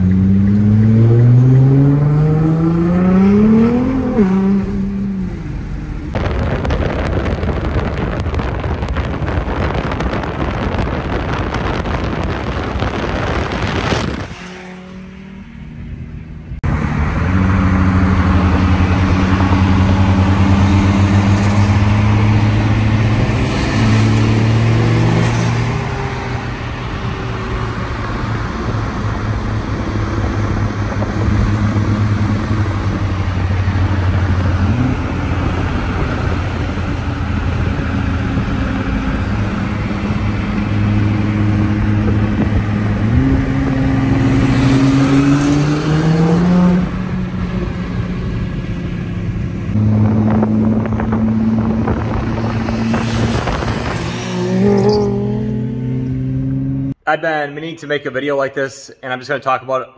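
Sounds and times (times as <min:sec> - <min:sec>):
car engine revving: 0:00.0 - 0:57.0
rushing noise: 0:05.4 - 0:47.3, 0:49.2 - 0:56.9.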